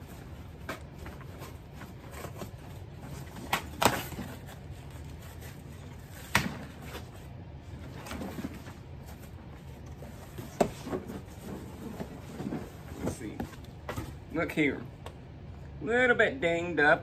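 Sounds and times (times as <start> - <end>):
cardboard flaps rustling: 0.0 - 14.3.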